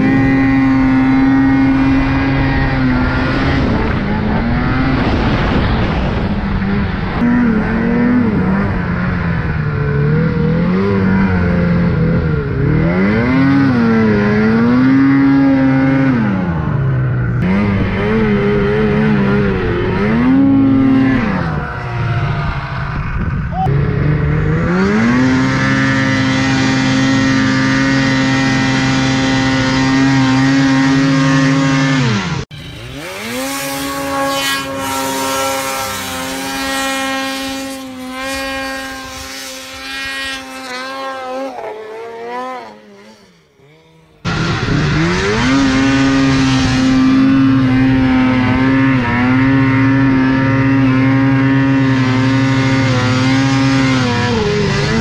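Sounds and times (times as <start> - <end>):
distant snowmobile passing: 0.0 - 55.0
snowmobile engine revving: 0.0 - 55.0.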